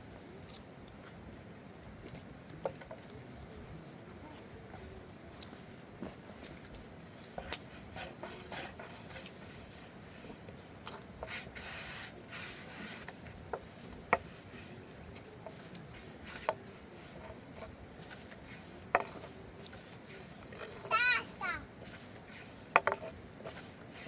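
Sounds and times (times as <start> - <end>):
rubbing and scraping handling noise: 0.0 - 24.0.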